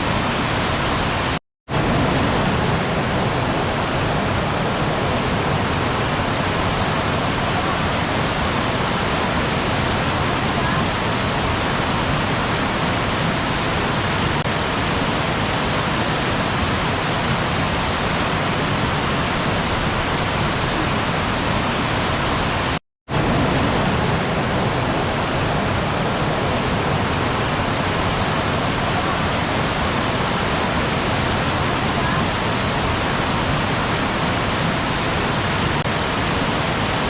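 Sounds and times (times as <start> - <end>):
waterfall roaring: 0.0 - 37.0.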